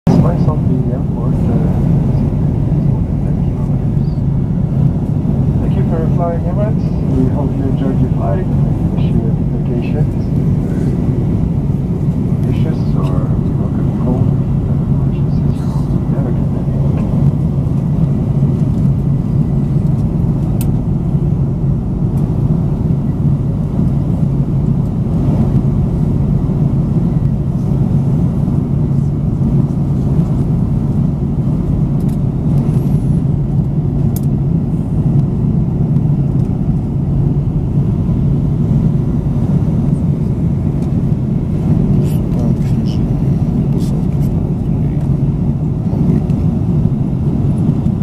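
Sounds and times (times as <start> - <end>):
airliner cabin drone: 0.1 - 48.0.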